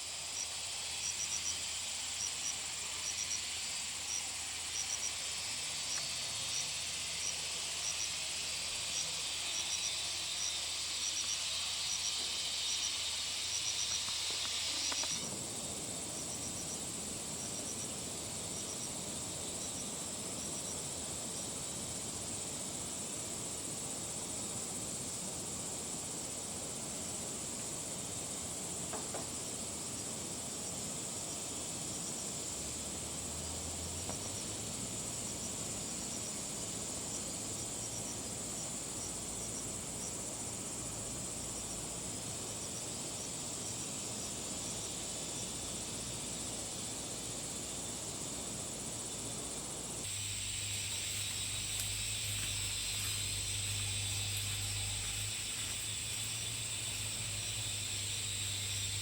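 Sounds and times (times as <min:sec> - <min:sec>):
loud hiss: 0:00.0 - 0:31.8, 0:32.4 - 0:59.0
insects chirring: 0:00.0 - 0:59.0.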